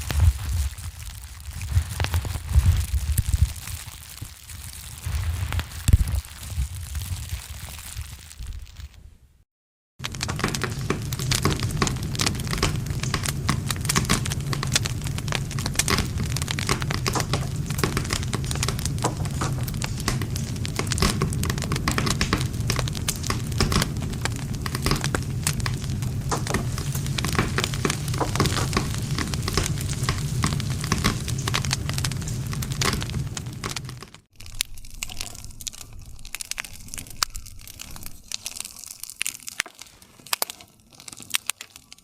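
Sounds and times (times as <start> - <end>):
campfire crackling and popping: 0.0 - 9.0, 10.0 - 42.0.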